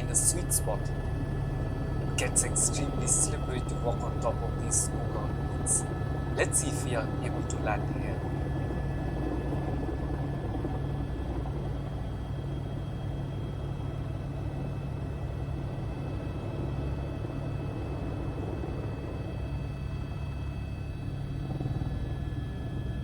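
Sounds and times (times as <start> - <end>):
helicopter engine and rotors: 0.0 - 23.0.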